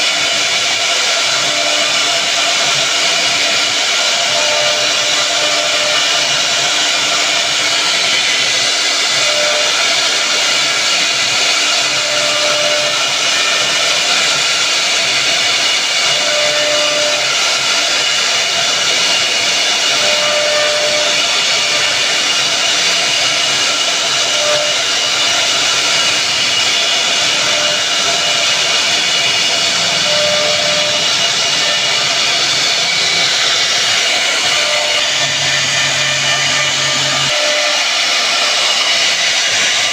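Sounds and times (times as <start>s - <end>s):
router bit cutting wood whine: 0.0s - 39.9s.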